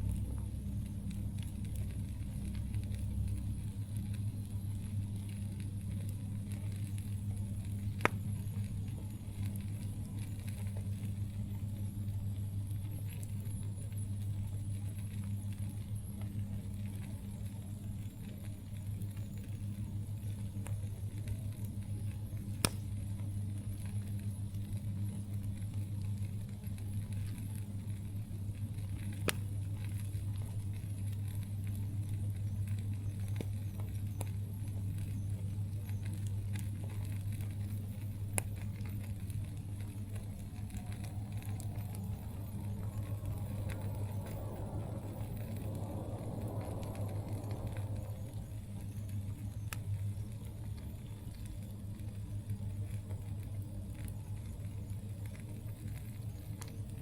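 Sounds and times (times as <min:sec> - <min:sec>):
campfire crackling: 0:00.0 - 0:57.0
sharp fire pops: 0:00.0 - 0:57.0
steady low hum: 0:00.0 - 0:57.0.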